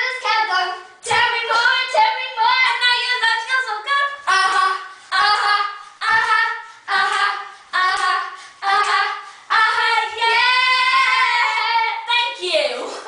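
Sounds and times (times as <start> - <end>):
young women singing unaccompanied: 0.0 - 13.0.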